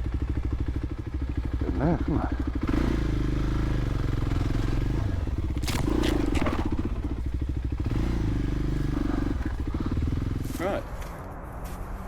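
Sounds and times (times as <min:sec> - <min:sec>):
motorcycle engine at low revs: 0:00.0 - 0:11.4.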